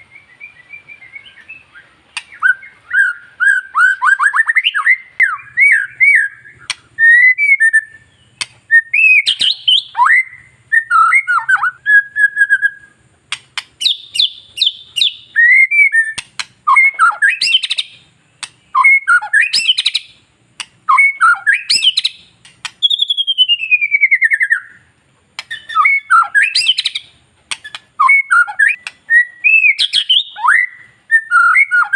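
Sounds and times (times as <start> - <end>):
bird singing whistles and trills: 0.0 - 31.9.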